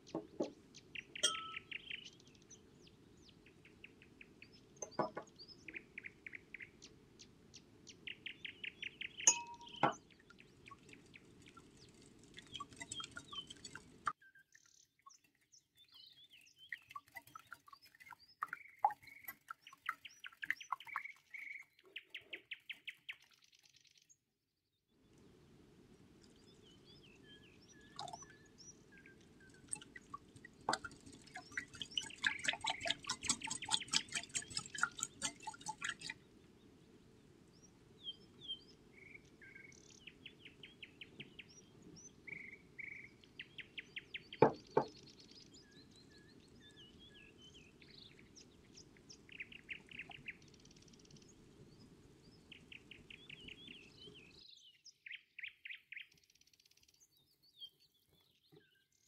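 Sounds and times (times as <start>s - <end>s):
small birds chirping: 0.0s - 24.2s, 26.0s - 59.0s.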